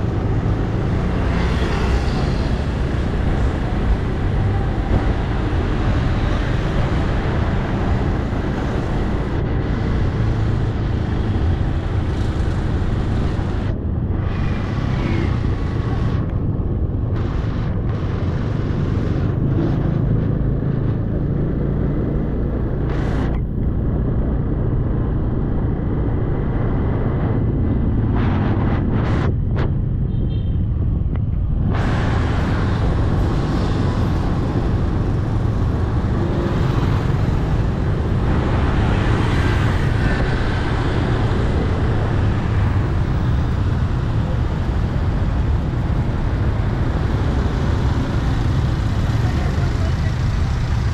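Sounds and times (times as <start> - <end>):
wind on microphone: 0.0 - 49.8.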